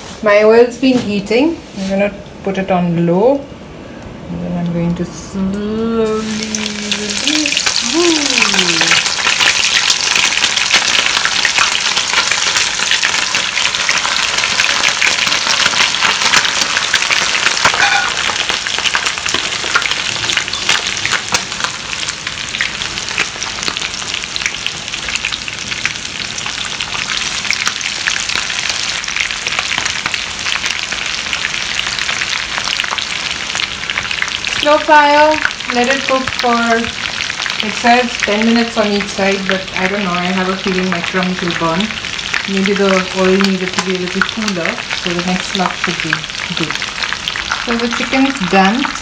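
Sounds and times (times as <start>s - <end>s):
chicken frying in hot oil: 6.0s - 49.0s.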